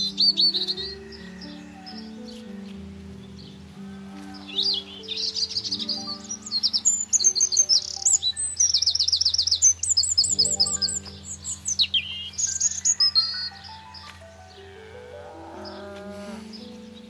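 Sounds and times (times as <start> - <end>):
soft background music: 0.0 - 17.0
songbirds chirping and singing: 0.0 - 17.0.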